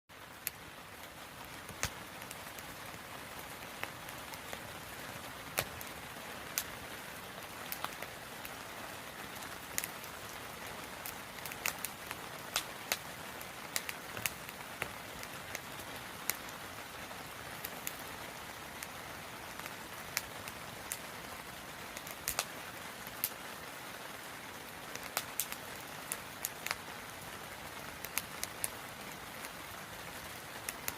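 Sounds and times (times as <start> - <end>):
campfire crackling and popping: 0.1 - 30.9.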